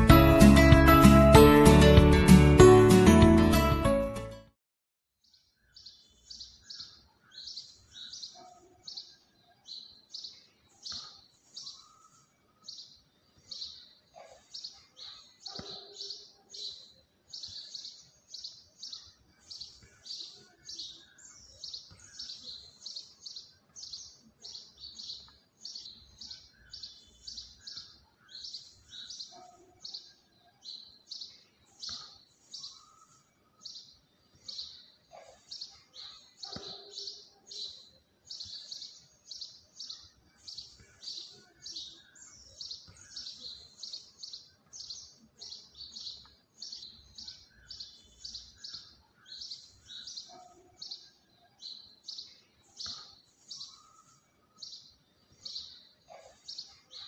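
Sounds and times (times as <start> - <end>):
small birds chirping: 5.2 - 57.0.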